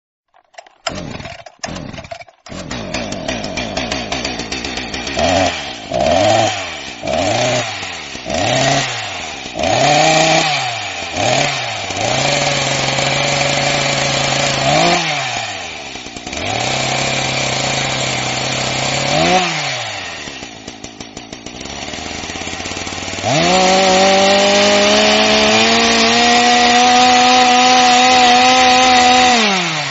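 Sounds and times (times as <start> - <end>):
chainsaw engine idling and revving: 0.4 - 29.9.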